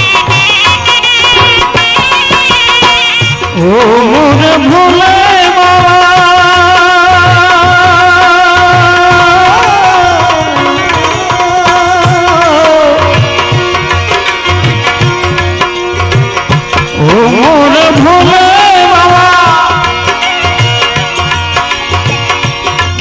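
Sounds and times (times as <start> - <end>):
devotional melody: 0.0 - 23.0
tabla rhythm: 0.0 - 23.0.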